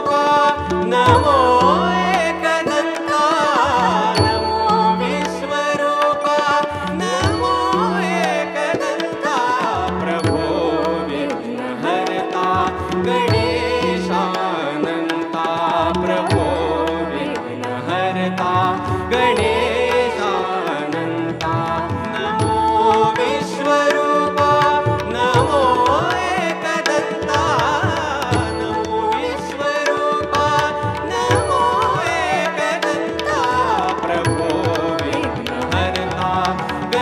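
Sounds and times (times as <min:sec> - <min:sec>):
harmonium: 0:00.0 - 0:37.0
man and woman singing: 0:00.0 - 0:37.0
tabla: 0:00.0 - 0:37.0.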